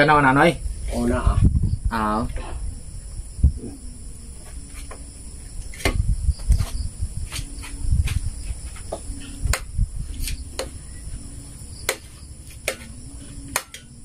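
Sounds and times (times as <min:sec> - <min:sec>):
insect trill: 0:00.0 - 0:14.0
dull low thumps: 0:00.6 - 0:12.3.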